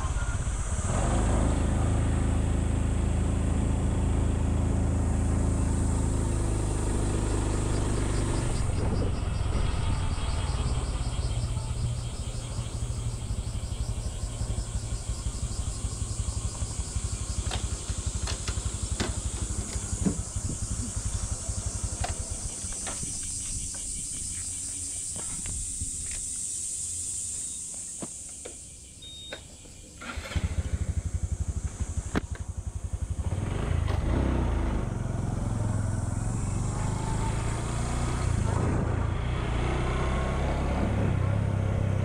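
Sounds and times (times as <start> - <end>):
motorcycle engine rumbling: 0.0 - 42.0.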